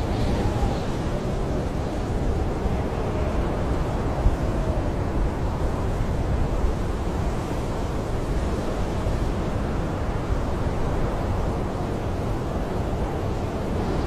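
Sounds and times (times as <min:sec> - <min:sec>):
blizzard wind blowing: 0:00.0 - 0:14.0.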